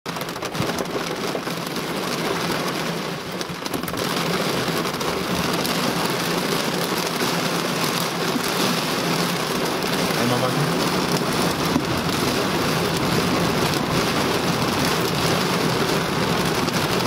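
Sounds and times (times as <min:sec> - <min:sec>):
heavy rain on car: 0:00.1 - 0:17.0.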